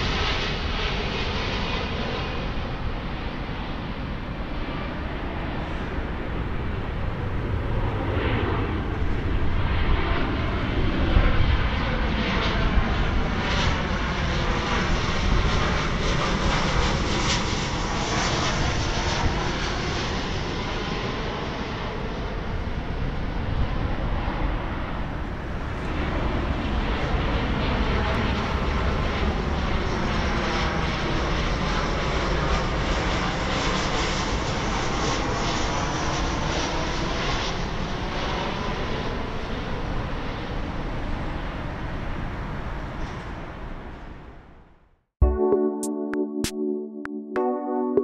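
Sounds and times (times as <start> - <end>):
jet airliner passing overhead: 0.0 - 44.6.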